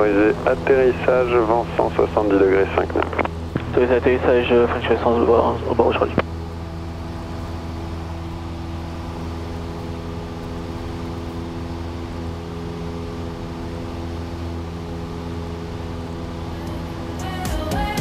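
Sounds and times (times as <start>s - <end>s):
aircraft engine drone in cabin: 0.0s - 18.0s.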